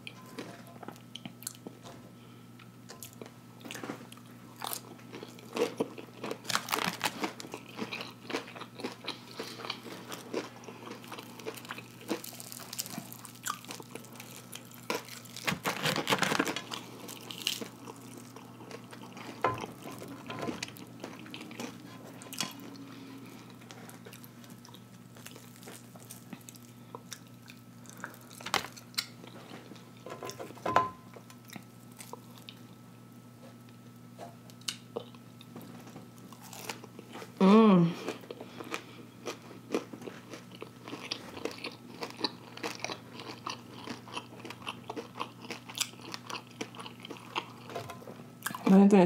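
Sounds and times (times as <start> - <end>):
person chewing: 1.1 - 1.8, 2.9 - 29.8, 31.4 - 32.7, 36.3 - 47.8
crackling of fried food: 3.0 - 30.6, 31.2 - 32.8, 33.9 - 49.0.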